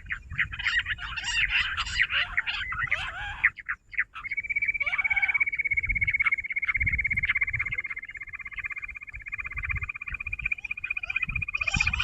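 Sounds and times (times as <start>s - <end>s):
quail high trill: 0.0s - 8.8s, 9.4s - 12.0s
quail chattering calls: 0.0s - 12.0s.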